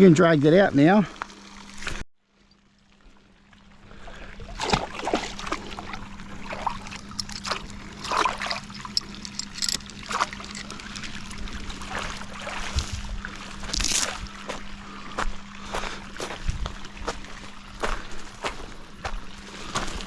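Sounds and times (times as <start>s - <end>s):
steady low hum: 0.2s - 20.0s
water splashing and trickling: 0.6s - 18.6s.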